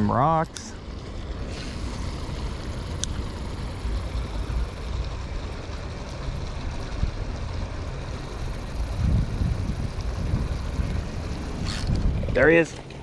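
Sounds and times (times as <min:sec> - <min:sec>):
water rushing: 0:00.0 - 0:13.0
wind buffeting microphone: 0:01.7 - 0:13.0.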